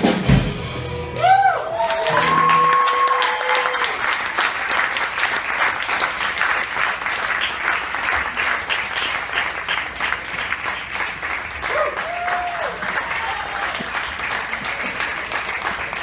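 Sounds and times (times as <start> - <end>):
audience applauding: 1.2 - 16.0.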